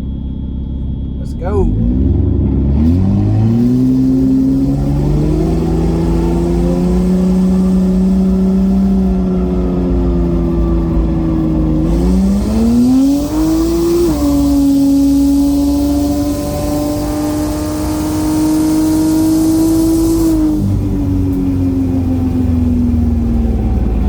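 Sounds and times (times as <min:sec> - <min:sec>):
turbo car engine pulling hard: 0:01.2 - 0:24.0.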